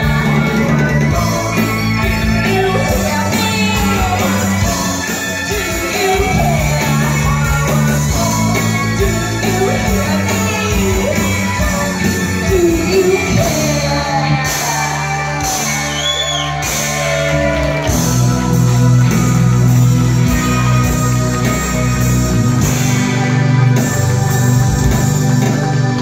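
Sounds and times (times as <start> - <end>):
person singing: 0.0 - 24.1
live rock band playing: 0.0 - 26.0.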